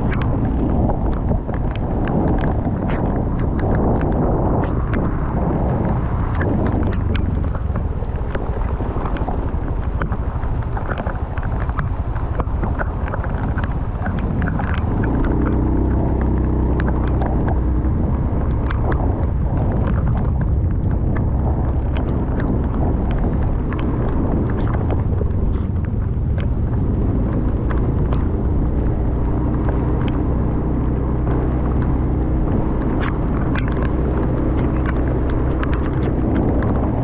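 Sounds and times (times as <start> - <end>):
rain ticking: 0.0 - 37.0
wind buffeting microphone: 0.0 - 37.0.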